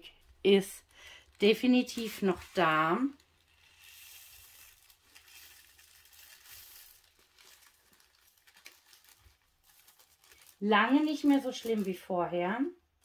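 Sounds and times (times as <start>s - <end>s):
plastic bag crinkling: 0.1s - 13.0s.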